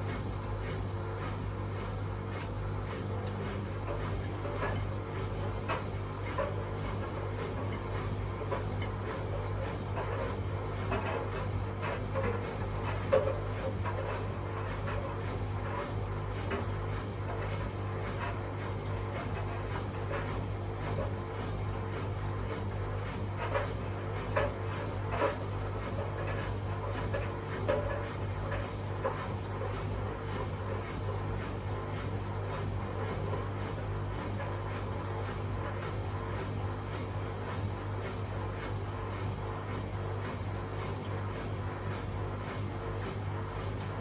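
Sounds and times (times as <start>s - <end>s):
washing machines spinning: 0.0s - 44.0s.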